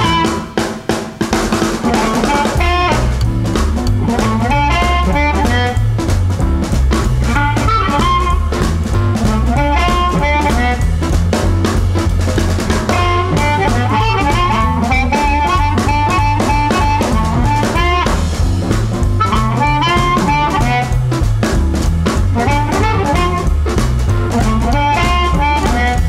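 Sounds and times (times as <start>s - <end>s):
blues band playing: 0.0s - 26.0s.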